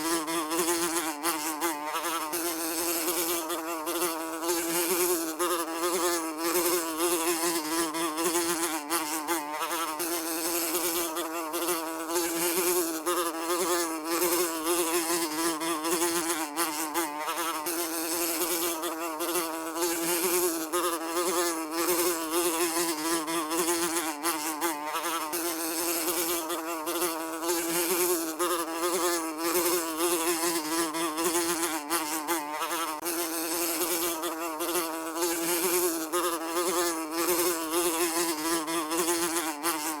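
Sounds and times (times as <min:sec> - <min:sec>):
housefly buzzing: 0:00.0 - 0:40.0.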